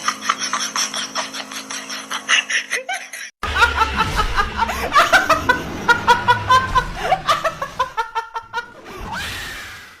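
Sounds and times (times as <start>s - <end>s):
high-pitched laughter: 0.0s - 9.1s.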